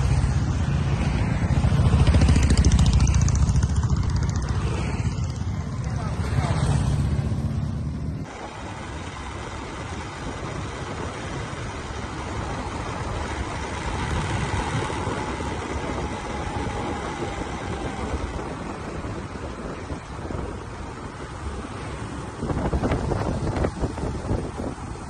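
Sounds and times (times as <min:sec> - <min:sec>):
motorcycle engine running: 0:00.0 - 0:25.0
road and air noise: 0:00.0 - 0:25.0.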